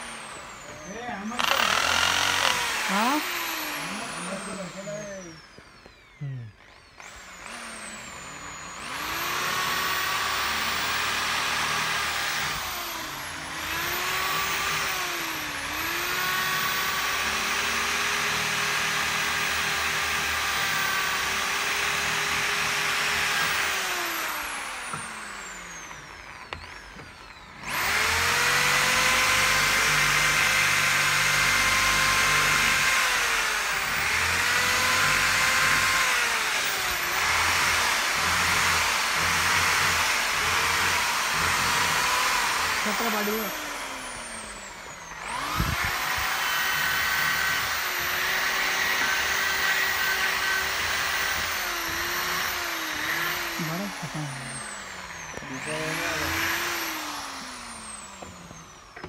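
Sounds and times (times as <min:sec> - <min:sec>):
die grinder whining: 0:00.0 - 0:59.0.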